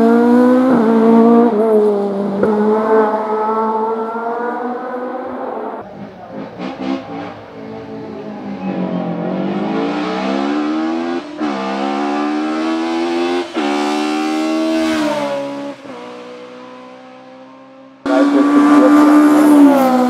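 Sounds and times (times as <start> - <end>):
loud engine: 0.0 - 20.0
race car engine accelerating: 0.0 - 20.0.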